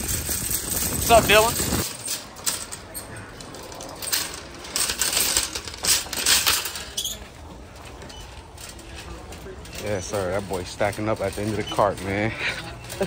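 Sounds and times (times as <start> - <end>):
shopping cart rattling: 0.0 - 13.0.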